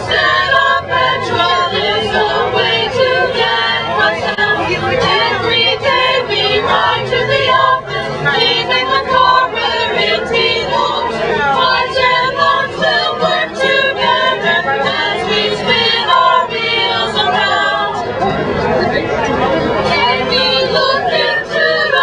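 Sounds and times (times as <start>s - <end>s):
group singing in harmony: 0.0s - 18.8s, 19.4s - 22.0s.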